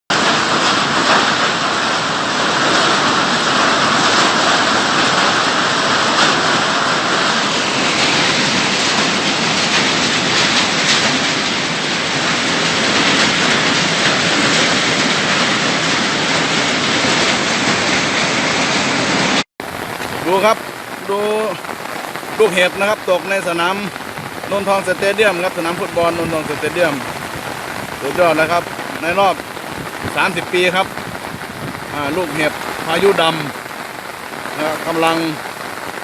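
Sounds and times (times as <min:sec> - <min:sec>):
heavy rain and hail: 0:00.1 - 0:36.0.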